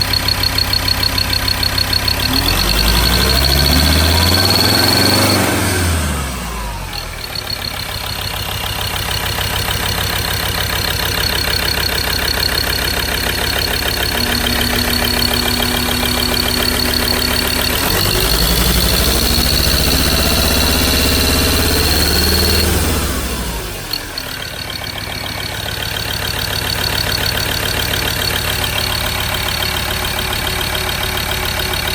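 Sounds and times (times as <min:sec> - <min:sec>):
diesel engine idling and revving: 0:00.0 - 0:31.9.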